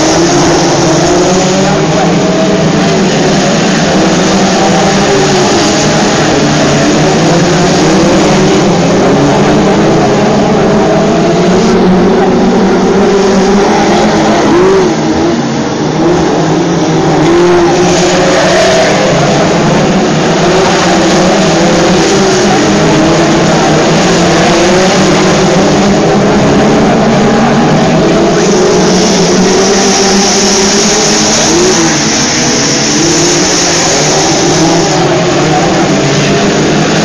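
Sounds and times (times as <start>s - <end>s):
racing car engines: 0.0s - 37.0s.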